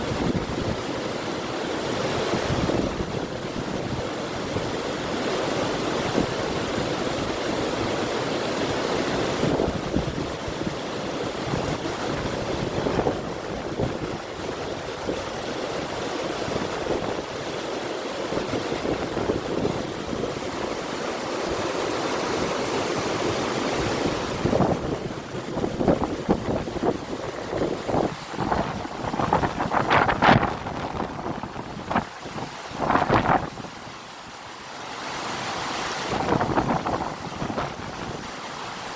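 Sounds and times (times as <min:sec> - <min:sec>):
river water rushing: 0:00.0 - 0:38.9
wind: 0:00.0 - 0:38.9.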